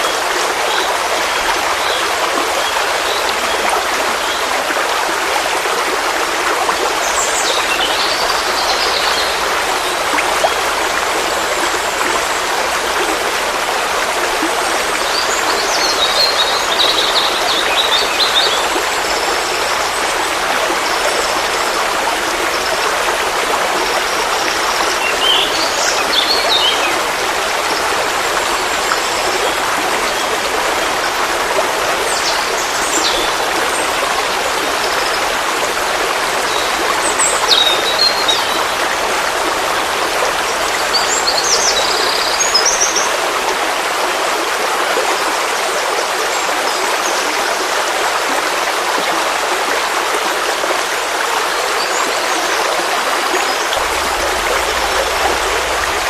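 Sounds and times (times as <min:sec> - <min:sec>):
stream water babbling: 0:00.0 - 0:56.0.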